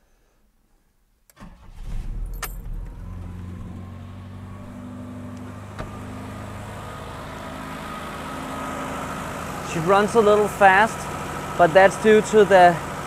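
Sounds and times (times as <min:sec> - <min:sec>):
car engine starting and idling: 0:01.3 - 0:13.0.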